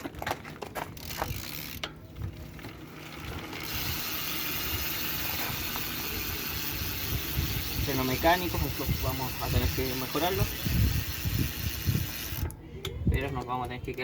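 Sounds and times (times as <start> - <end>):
bike freehub clicking: 0.0 - 14.0.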